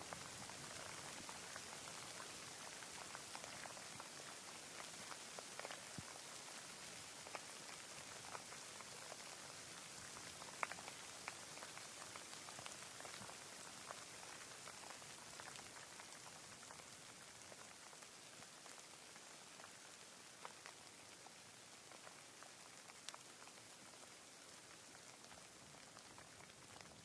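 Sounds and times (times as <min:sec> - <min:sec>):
light rain: 0:00.0 - 0:27.0.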